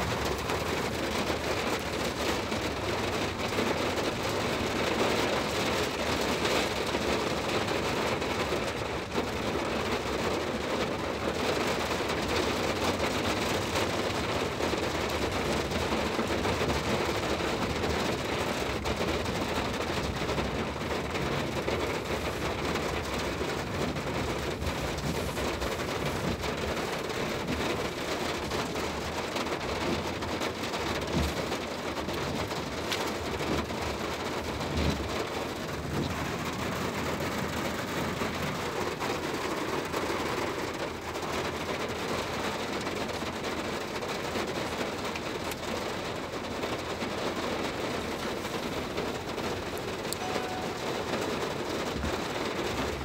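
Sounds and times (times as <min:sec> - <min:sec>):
car running on wet road: 0:00.0 - 0:53.0
rain on car roof: 0:00.0 - 0:53.0.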